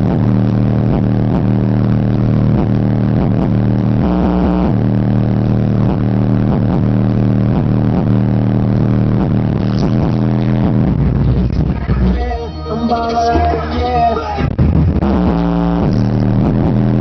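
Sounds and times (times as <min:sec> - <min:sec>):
bass-heavy hip-hop beat: 0:00.0 - 0:17.0.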